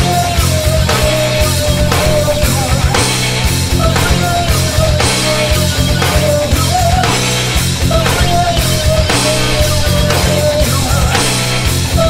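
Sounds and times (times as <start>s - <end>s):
drums keeping a steady beat: 0.0s - 12.0s
loud rock music: 0.0s - 12.0s.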